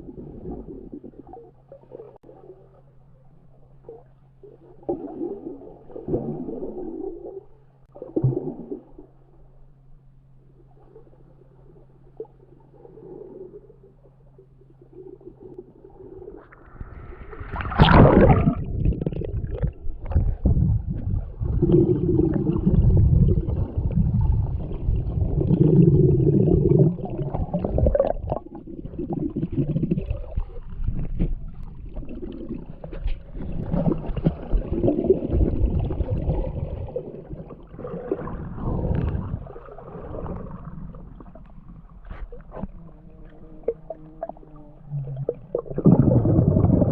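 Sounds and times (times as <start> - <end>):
underwater water churning and gurgling: 0.0 - 46.9.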